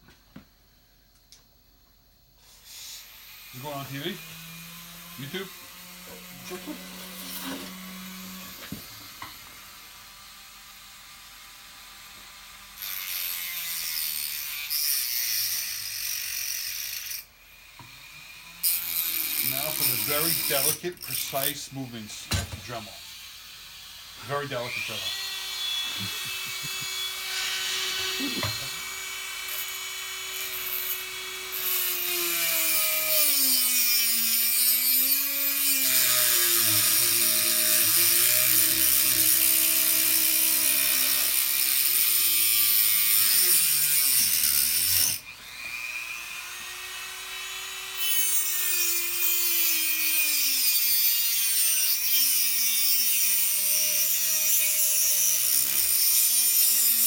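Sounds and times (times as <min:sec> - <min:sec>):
rotary tool grinding: 0:02.4 - 0:09.7, 0:12.4 - 0:57.0.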